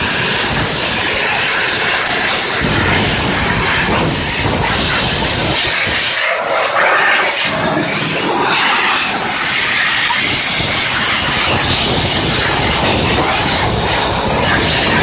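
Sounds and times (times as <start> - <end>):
high-pressure steam jet hissing: 0.0 - 15.0.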